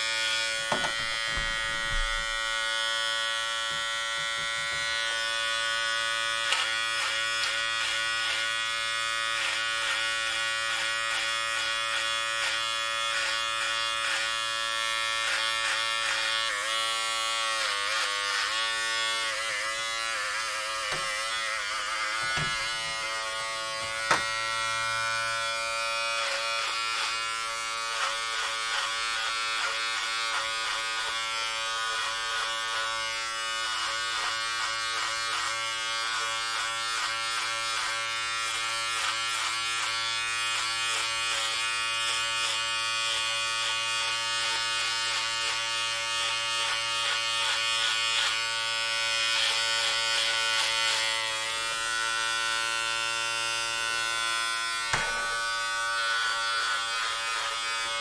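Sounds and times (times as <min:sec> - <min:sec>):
clipper blades rasping through hair: 0:00.0 - 0:58.0
electric hair clippers buzzing: 0:00.0 - 0:58.0.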